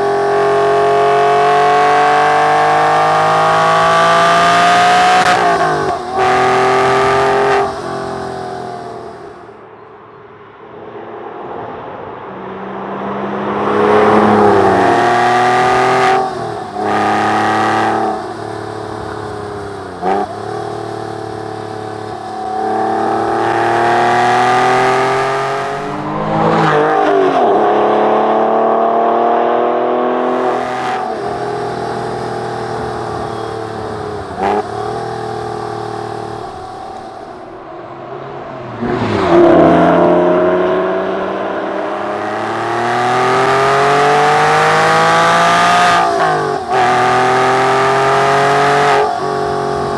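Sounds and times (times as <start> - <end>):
car engine revving through gears: 0.0 - 9.5, 12.8 - 49.9.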